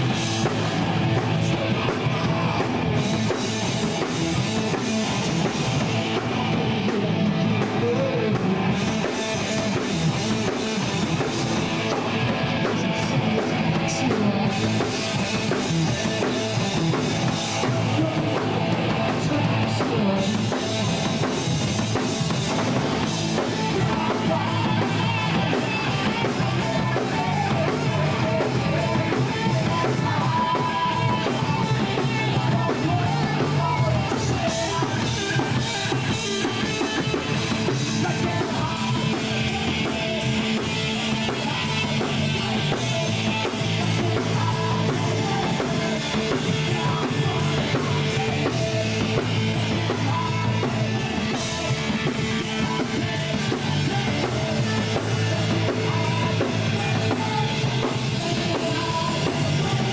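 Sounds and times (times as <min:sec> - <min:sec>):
lead singer singing: 0:00.0 - 0:59.9
punk rock band playing: 0:00.0 - 0:59.9.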